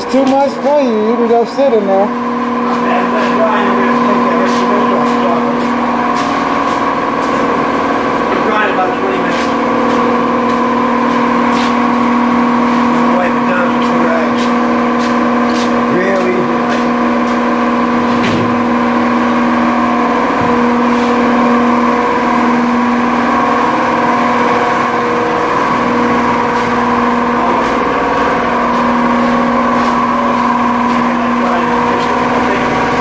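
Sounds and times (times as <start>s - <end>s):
machinery drone with hiss: 1.2s - 33.0s.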